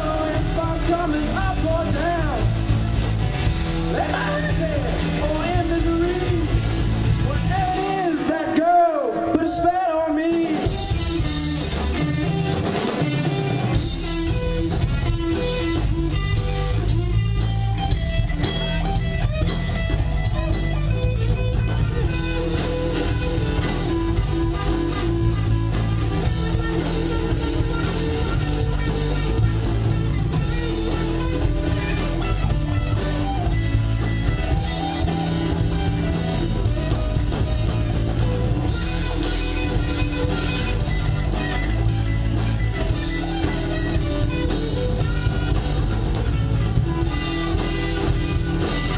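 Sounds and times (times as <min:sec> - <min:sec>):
drum kit: 0:00.0 - 0:48.9
electric guitars: 0:00.0 - 0:48.9.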